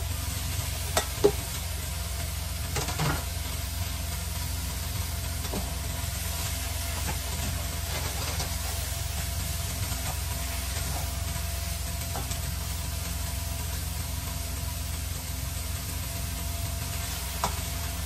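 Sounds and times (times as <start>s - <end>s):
steady low hum: 0.0s - 18.0s
vegetables sizzling in oil: 0.0s - 18.0s.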